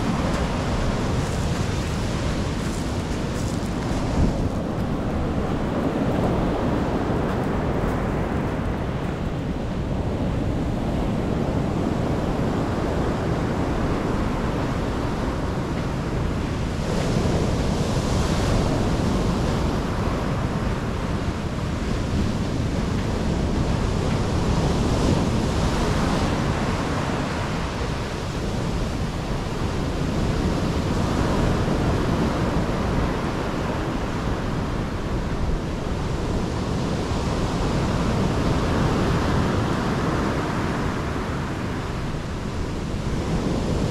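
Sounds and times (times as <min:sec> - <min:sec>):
waves breaking on shore: 0:00.0 - 0:43.9
wind rumble on microphone: 0:00.0 - 0:43.9.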